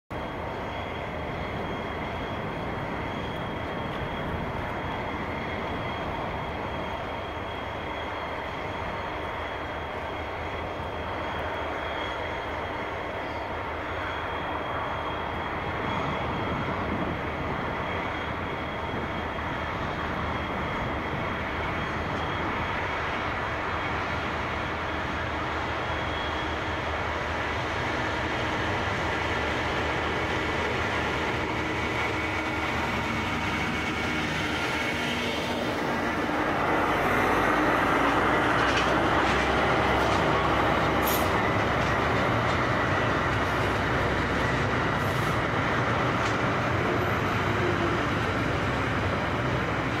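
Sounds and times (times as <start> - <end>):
approaching diesel locomotive: 0.1 - 50.0
constant high whine: 0.1 - 50.0
diesel locomotives idling: 0.1 - 50.0.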